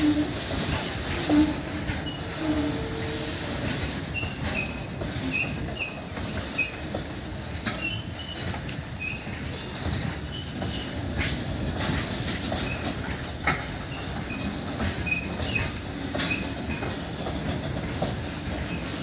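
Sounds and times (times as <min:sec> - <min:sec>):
clicks over rail joints: 0:00.0 - 0:19.0
high wheel squeaks: 0:00.0 - 0:19.0
train wheels rumbling on rail: 0:00.0 - 0:19.0.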